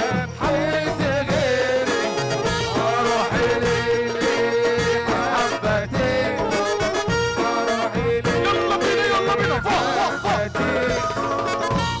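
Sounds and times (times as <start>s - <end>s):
folk band playing: 0.0s - 12.0s.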